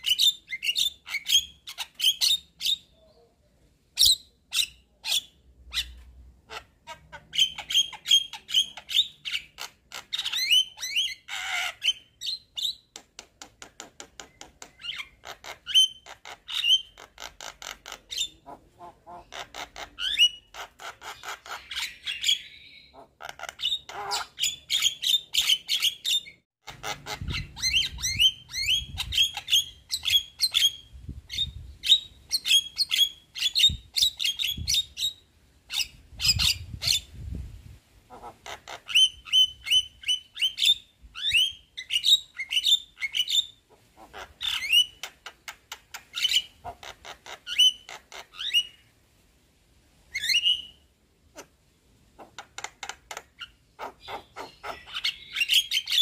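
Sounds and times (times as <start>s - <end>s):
bird chattering song: 0.0s - 3.4s, 4.0s - 37.1s, 38.1s - 48.8s, 52.2s - 56.0s.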